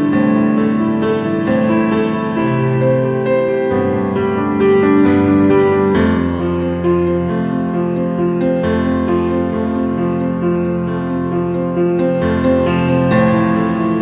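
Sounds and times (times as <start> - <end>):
instrumental keyboard music: 0.0 - 14.0.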